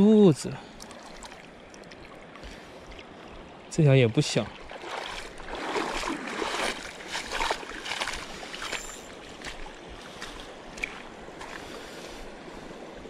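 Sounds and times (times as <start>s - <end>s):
shallow river rushing: 0.0s - 13.0s.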